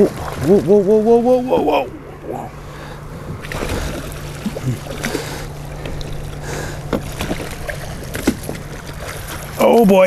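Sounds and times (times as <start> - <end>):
outboard motor running: 0.0 - 10.0
water wash: 0.0 - 10.0.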